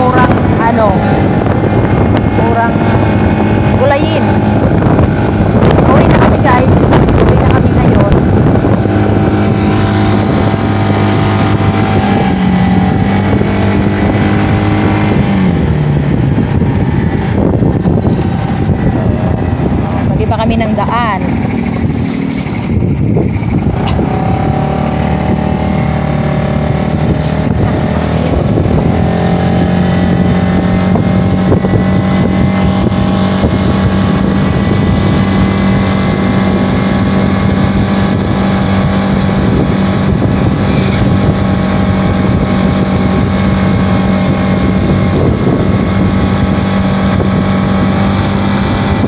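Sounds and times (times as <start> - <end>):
small motorcycle engine running: 0.0 - 49.0.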